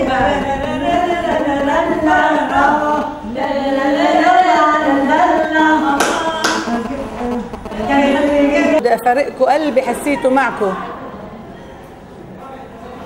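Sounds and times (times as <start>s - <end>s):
women singing unaccompanied: 0.0s - 10.8s.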